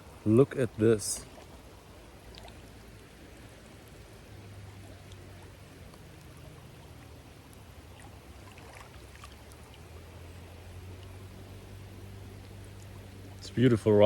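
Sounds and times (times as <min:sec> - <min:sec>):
faint wash of water: 0:00.0 - 0:14.0.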